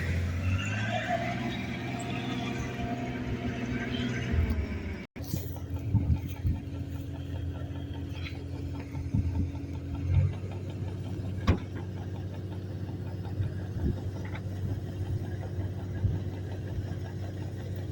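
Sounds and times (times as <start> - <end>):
heavy machinery engine humming: 0.0 - 17.9.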